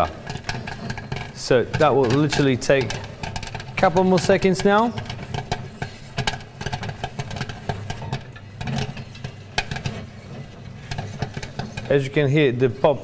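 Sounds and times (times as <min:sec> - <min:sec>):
popcorn machine humming: 0:00.0 - 0:13.0
popcorn popping: 0:00.0 - 0:13.0.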